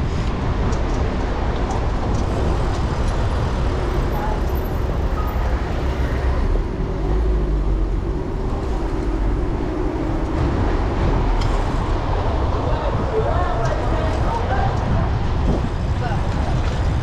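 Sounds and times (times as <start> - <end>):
road and traffic rumble: 0.0 - 17.0.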